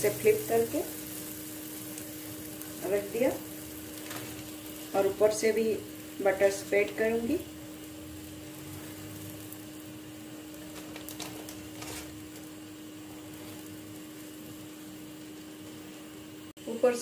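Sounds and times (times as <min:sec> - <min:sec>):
constant hum: 0:00.0 - 0:17.0.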